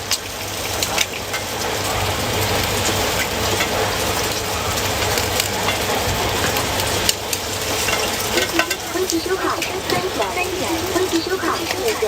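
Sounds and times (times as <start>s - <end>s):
food sizzling on a griddle: 0.0s - 12.0s
small crackles: 0.0s - 12.0s.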